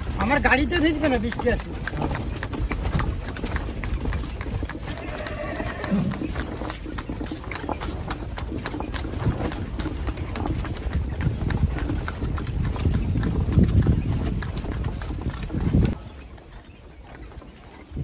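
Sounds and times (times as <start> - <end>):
horse hooves clip-clopping: 0.0 - 18.0.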